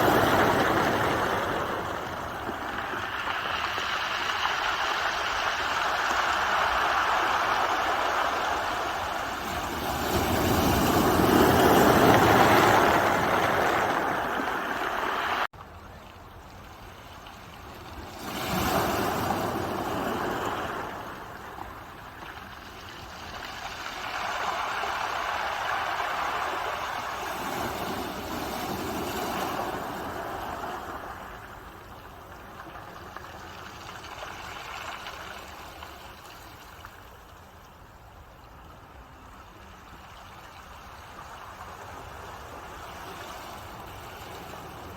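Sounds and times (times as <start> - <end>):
ocean waves breaking on shore: 0.0 - 15.5, 17.4 - 37.4, 38.4 - 44.9.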